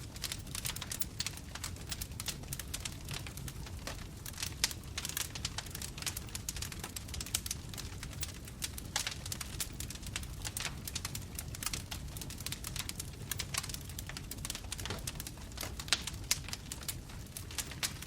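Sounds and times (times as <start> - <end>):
burning wood popping and snapping: 0.0 - 18.0
low rumble of flames: 0.0 - 18.0.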